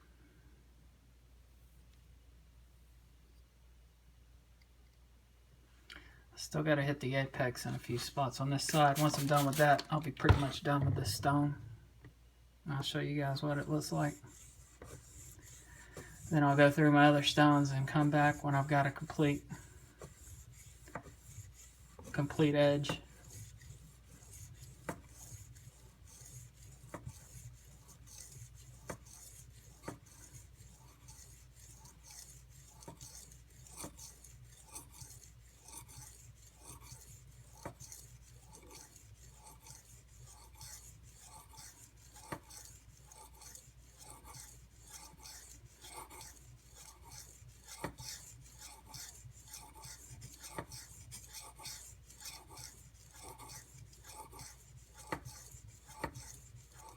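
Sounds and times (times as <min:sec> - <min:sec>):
knife scraping on whetstone: 0:07.8 - 0:11.4, 0:13.6 - 0:56.9.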